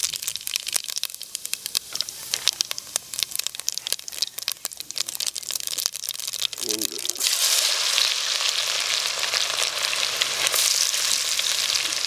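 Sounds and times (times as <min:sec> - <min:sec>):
spice seeds sizzling in oil: 0:00.0 - 0:12.0.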